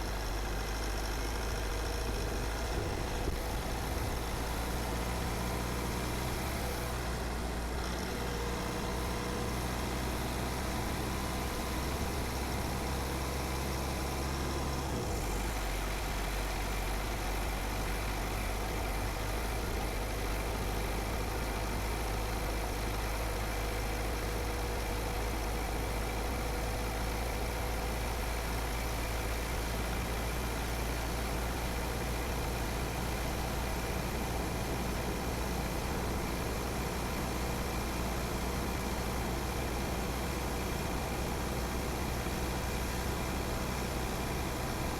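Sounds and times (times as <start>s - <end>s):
car engine hum: 0.0s - 44.9s
road noise: 0.0s - 44.9s.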